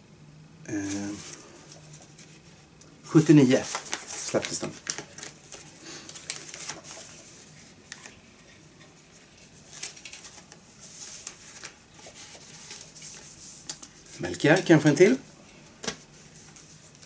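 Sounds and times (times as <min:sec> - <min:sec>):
paper sleeves rustling: 0:00.7 - 0:17.0.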